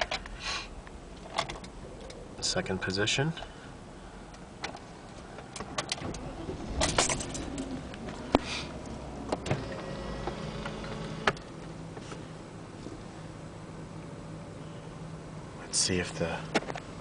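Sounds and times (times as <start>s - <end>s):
low hum: 0.0s - 15.5s.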